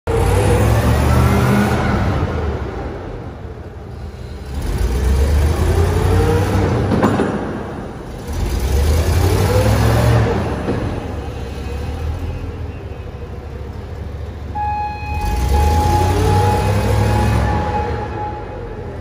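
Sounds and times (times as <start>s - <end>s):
forklift engine revving: 0.1s - 7.0s, 7.8s - 12.3s, 14.0s - 19.0s.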